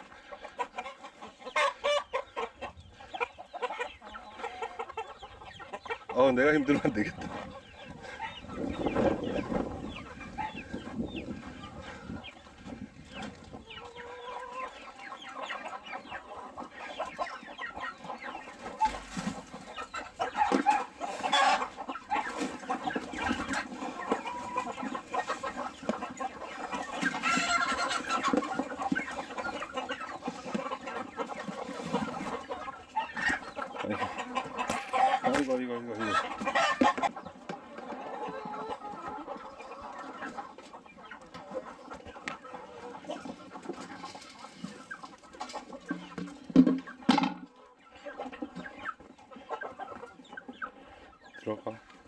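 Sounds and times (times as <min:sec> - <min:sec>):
chickens clucking: 0:00.0 - 0:52.0
loud chicken calls: 0:00.0 - 0:52.0.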